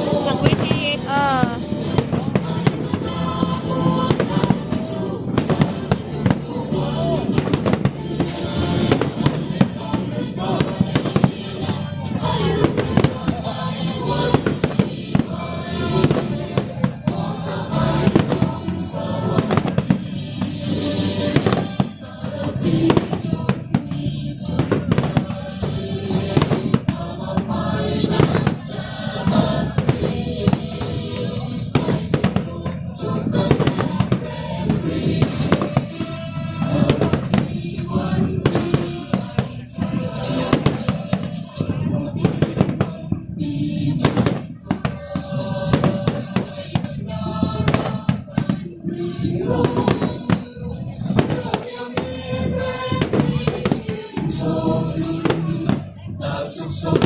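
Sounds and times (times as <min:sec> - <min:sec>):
fireworks bangs: 0:00.0 - 0:54.4
loud music: 0:00.0 - 0:57.0.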